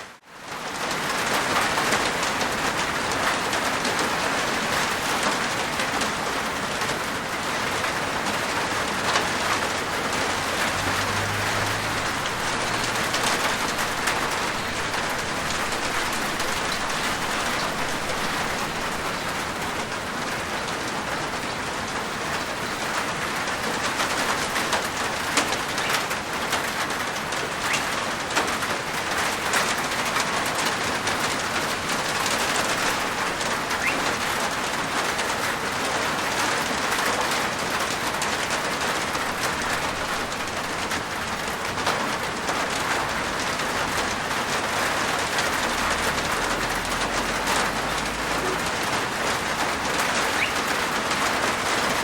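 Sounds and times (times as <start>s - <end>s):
rain on a rooftop: 0.0s - 52.0s.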